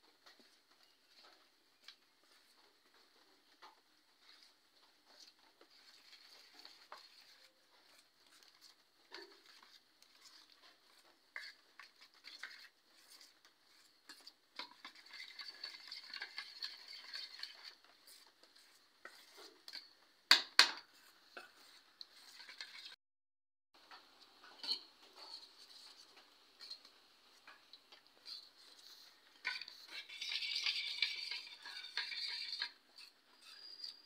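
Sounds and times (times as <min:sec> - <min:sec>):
metal spoon stirring batter: 0:00.3 - 0:23.0, 0:23.9 - 0:34.0.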